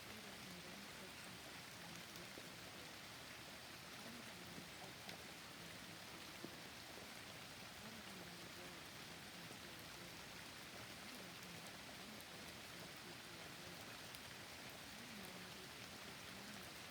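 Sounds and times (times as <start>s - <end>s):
steady rain hiss: 0.0s - 16.9s.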